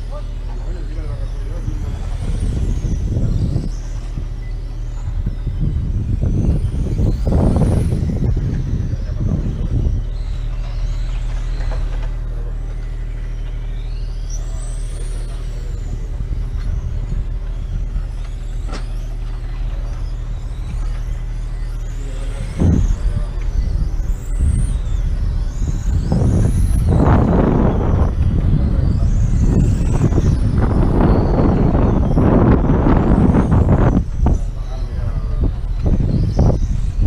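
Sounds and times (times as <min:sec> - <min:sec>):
steady low drone: 0:00.0 - 0:37.0.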